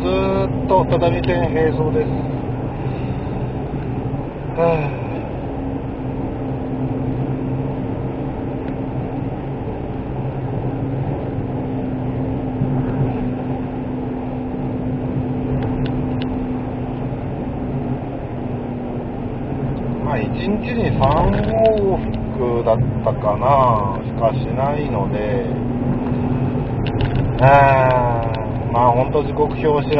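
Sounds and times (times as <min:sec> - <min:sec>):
car engine and tyre drone: 0:00.0 - 0:29.9.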